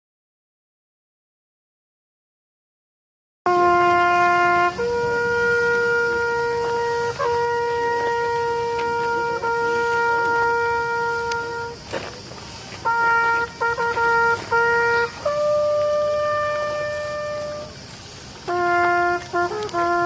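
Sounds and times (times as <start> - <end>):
solo trumpet call: 3.5 - 20.0.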